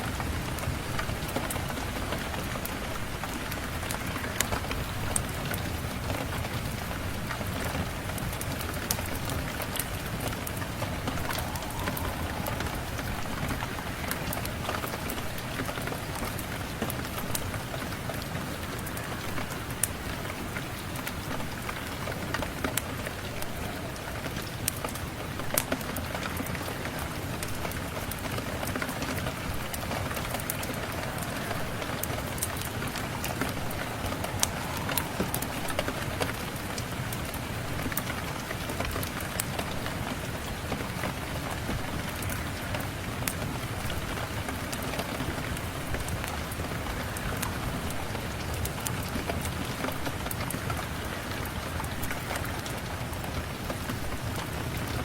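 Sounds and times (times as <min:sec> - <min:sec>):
fireplace fire crackling: 0:00.0 - 0:55.0
steady rain: 0:00.0 - 0:55.0.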